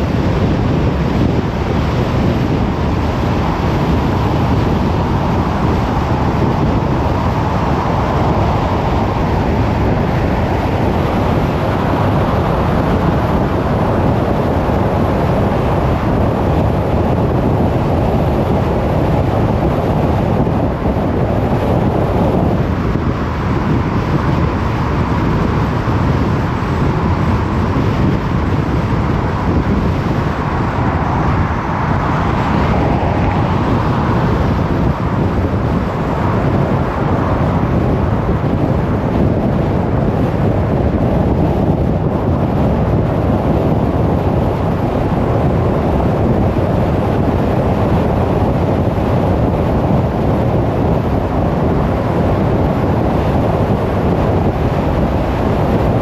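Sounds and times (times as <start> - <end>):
car tyre and wind noise: 0.0 - 56.0.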